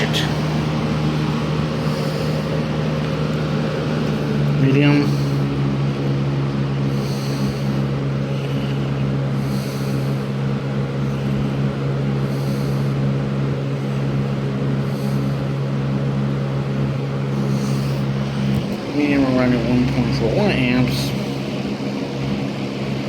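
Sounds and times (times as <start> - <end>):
box fan running: 0.0 - 23.0
motor hum: 0.0 - 23.0
rush of air from fan blades: 0.0 - 23.0.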